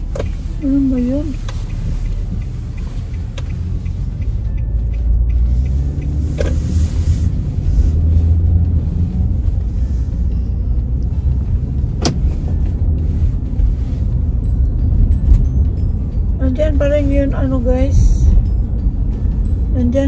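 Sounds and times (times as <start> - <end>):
car road noise rumble: 0.0 - 20.0.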